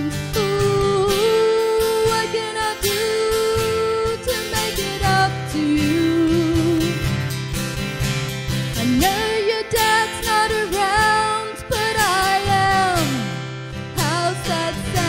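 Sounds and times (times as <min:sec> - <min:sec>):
woman singing slow song: 0:00.0 - 0:07.2, 0:08.8 - 0:15.0
acoustic guitar: 0:00.0 - 0:15.0.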